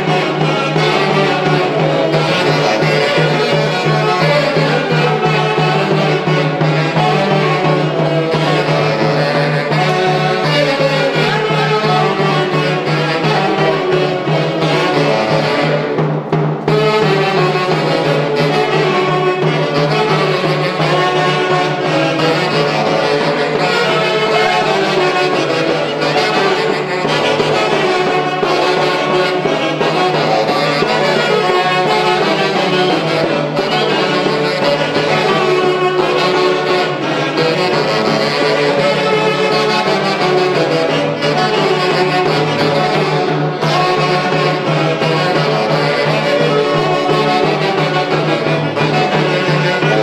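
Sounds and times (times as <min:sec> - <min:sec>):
saxophones and violins melody: 0:00.0 - 0:50.0.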